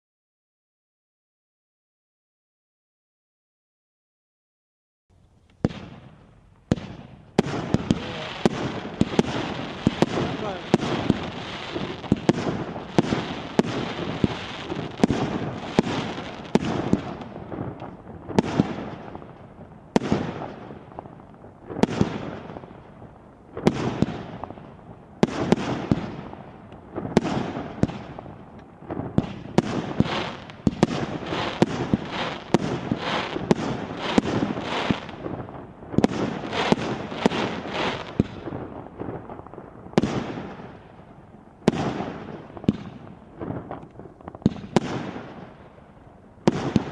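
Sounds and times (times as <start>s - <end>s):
fireworks banging: 5.6s - 40.9s, 41.6s - 45.6s, 46.4s - 46.9s.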